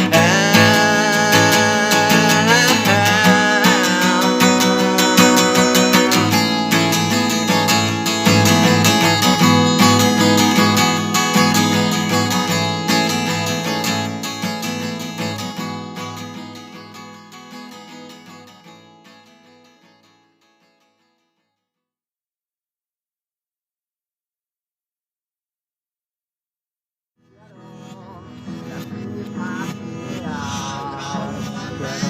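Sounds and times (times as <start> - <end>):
strummed acoustic guitar: 0.0 - 21.6, 27.2 - 32.0.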